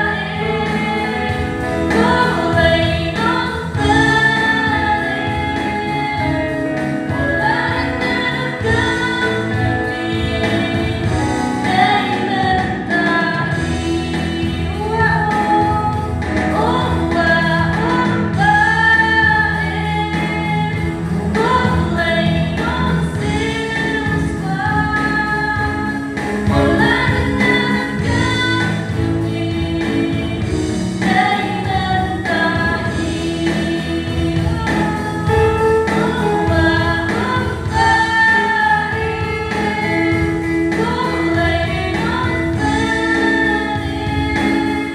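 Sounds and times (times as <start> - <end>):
choir singing a hymn: 0.0 - 15.0, 16.6 - 44.9
instrumental accompaniment: 0.0 - 44.9.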